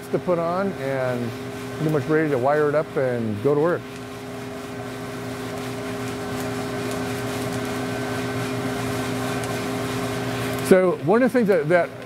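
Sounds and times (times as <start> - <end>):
blower humming: 0.0 - 12.0.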